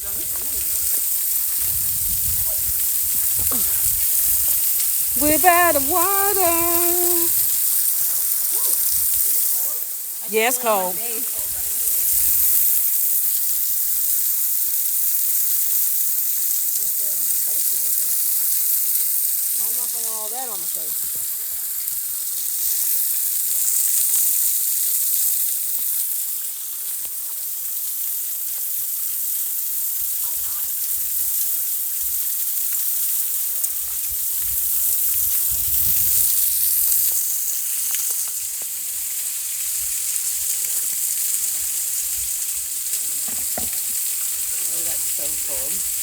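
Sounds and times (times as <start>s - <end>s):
small waterfall pouring: 0.0s - 5.2s, 7.2s - 46.0s.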